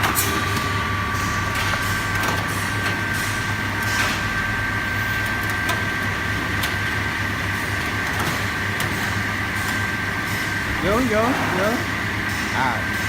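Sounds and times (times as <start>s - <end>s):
ice cutting machine humming: 0.0s - 13.0s.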